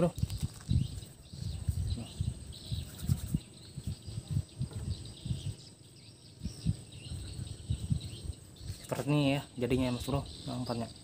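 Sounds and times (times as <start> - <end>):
bird chirps: 0.0 - 11.0
high insect whine: 0.0 - 11.0.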